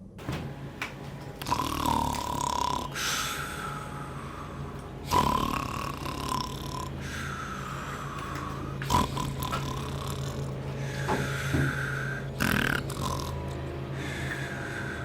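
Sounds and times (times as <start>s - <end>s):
man snoring: 1.4s - 15.0s.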